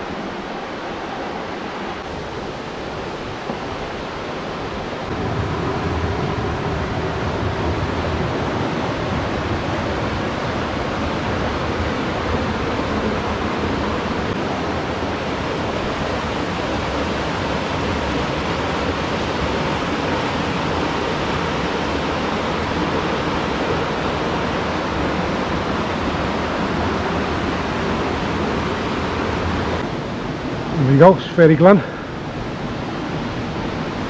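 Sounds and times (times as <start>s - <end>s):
river water rushing over rocks: 0.0s - 34.0s.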